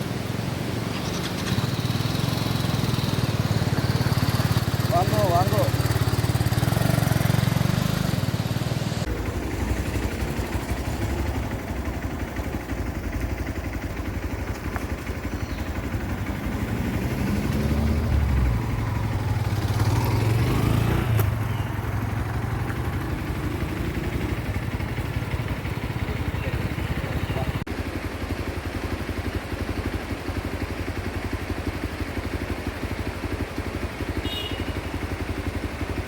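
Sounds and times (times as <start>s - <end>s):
motorcycle engine running: 0.5s - 36.0s.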